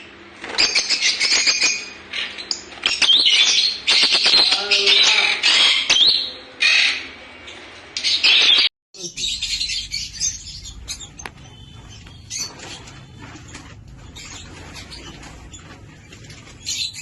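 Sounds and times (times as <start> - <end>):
lovebirds chirping shrilly: 0.4 - 7.1, 8.0 - 17.0.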